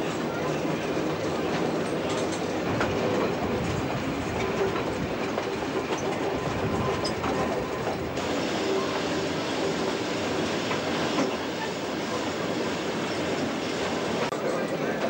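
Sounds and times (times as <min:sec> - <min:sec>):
railcar wheels rumbling on rails: 0:00.0 - 0:15.0.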